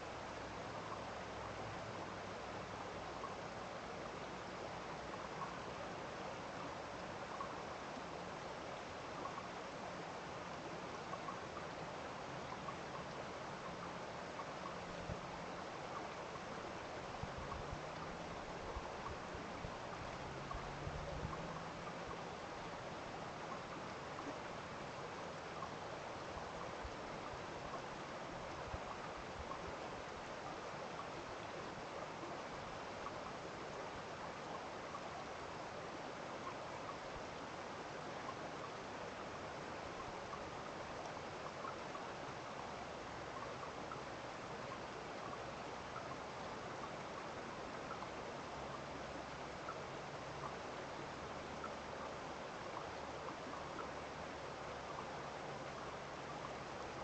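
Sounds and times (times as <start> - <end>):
faint dripping ticks: 0.0 - 57.0
stream running water: 0.0 - 57.0.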